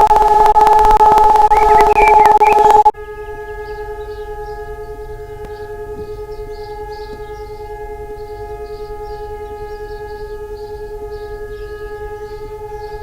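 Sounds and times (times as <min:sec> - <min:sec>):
siren steady tone: 0:00.0 - 0:13.0.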